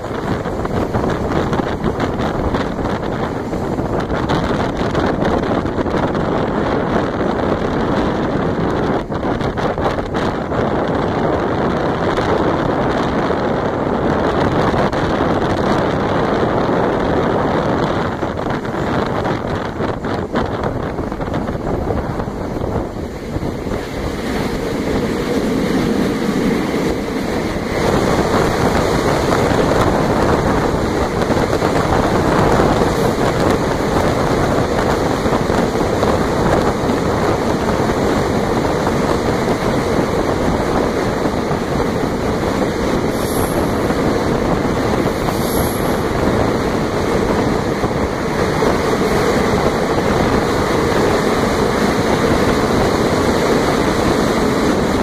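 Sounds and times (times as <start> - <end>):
train rumbling in tunnel: 0.0 - 55.0
wind on microphone: 0.0 - 55.0.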